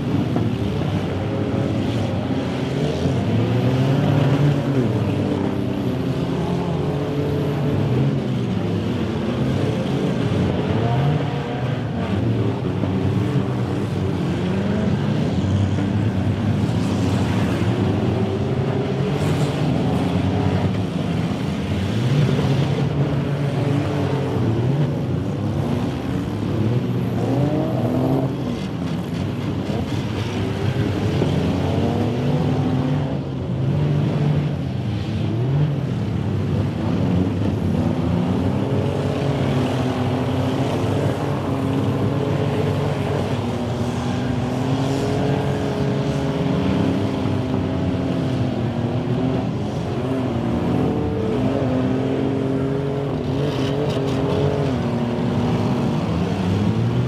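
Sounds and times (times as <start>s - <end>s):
many car engines revving: 0.0s - 57.0s.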